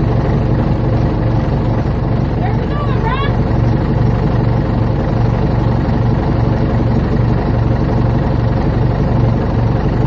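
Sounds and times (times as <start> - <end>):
backhoe engine running: 0.0 - 10.0.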